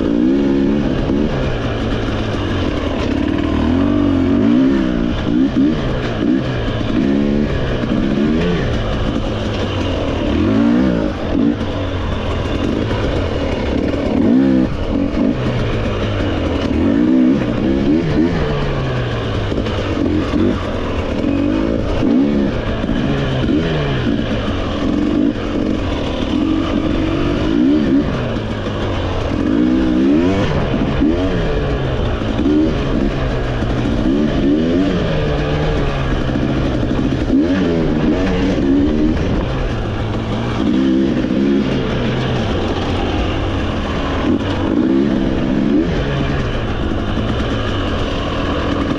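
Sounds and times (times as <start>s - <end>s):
off-road motorcycle engine revving: 0.0s - 48.9s.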